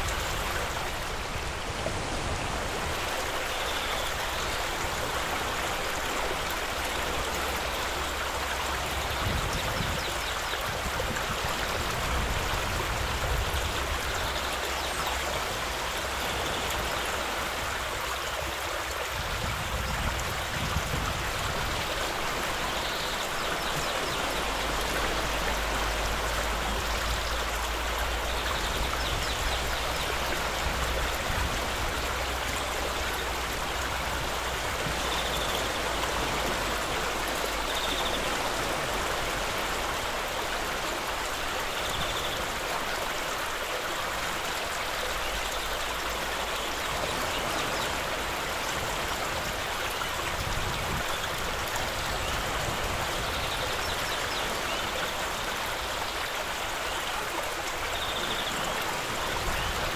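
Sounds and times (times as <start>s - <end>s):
river rushing over gravel: 0.0s - 59.9s.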